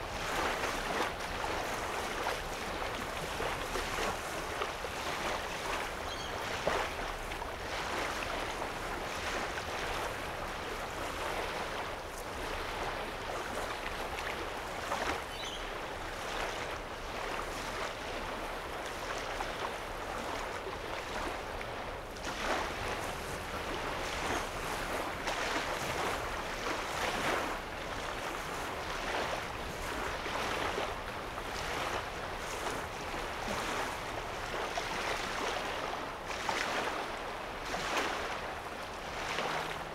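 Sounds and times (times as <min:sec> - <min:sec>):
waves lapping against shore: 0:00.0 - 0:39.9.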